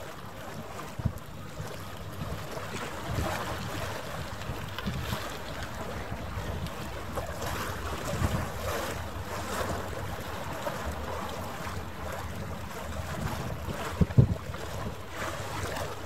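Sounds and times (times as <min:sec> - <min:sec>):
harbour water washing: 0:00.0 - 0:16.0
wind buffeting microphone: 0:00.6 - 0:16.0.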